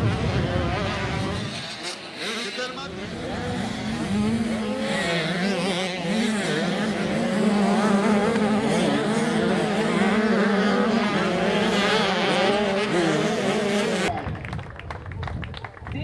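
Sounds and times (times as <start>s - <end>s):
motocross bike engines racing: 0.0s - 14.3s.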